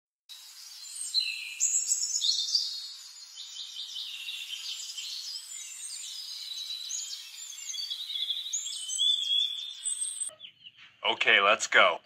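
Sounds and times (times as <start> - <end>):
high-pitched bird chirping: 0.4 - 11.3.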